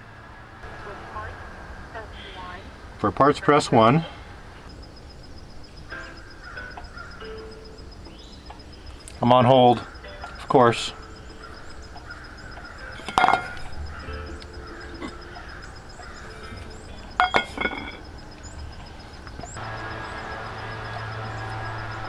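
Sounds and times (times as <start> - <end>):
steady low hum: 0.0 - 22.0
faint hold music over speakerphone: 0.6 - 22.0.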